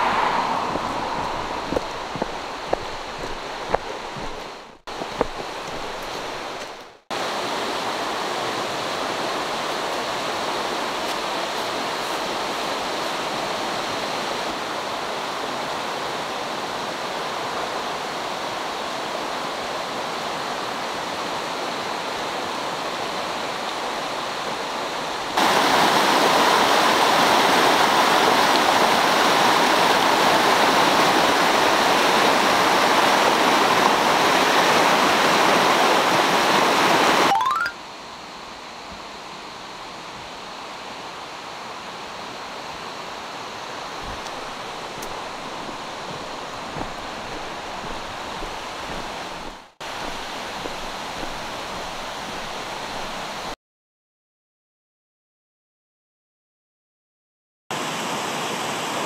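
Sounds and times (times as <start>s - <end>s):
stream running over rocks: 0.0s - 53.6s
white-water rapids: 0.0s - 53.6s, 57.7s - 59.0s.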